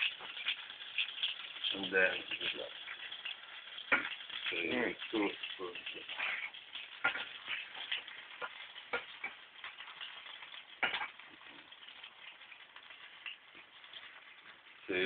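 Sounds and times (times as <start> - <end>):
oil popping and crackling: 0.0 - 15.0
omelette sizzling in oil: 0.0 - 15.0.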